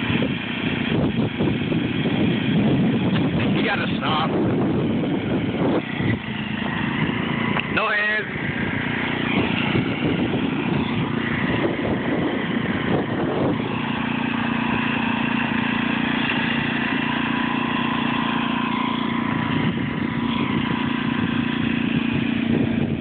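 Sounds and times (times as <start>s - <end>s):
small tractor engine running: 0.0s - 23.0s.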